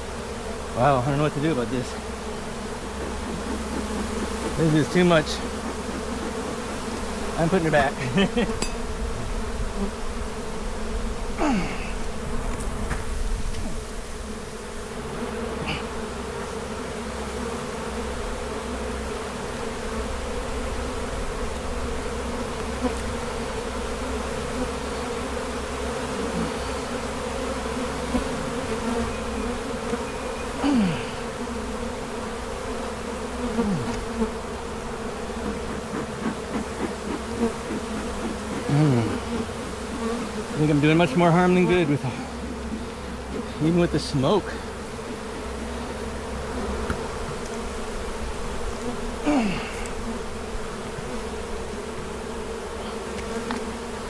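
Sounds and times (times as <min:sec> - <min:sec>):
bee flying past whine: 0:00.0 - 0:43.8, 0:44.5 - 0:54.0
bee colony buzzing: 0:00.0 - 0:54.0.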